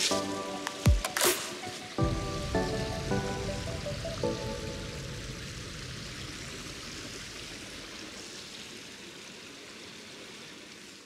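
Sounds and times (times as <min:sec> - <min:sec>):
stream rushing over cascades: 0:00.0 - 0:11.0.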